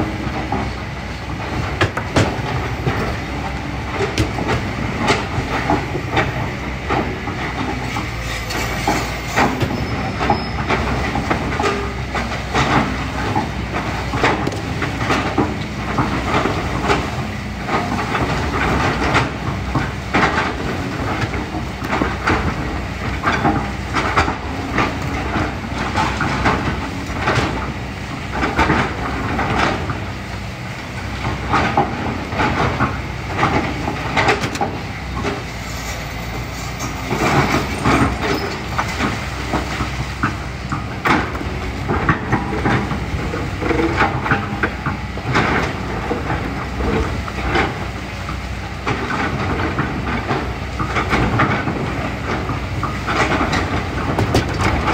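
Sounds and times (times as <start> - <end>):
bucket clanking and scraping rocks: 1.5 - 30.2, 31.2 - 54.9.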